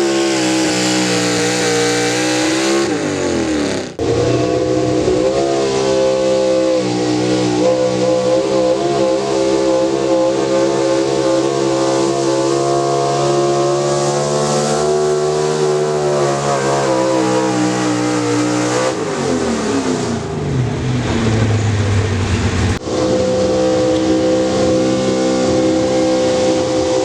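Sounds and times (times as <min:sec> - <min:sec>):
vehicle engine revving under load: 0:00.0 - 0:27.0.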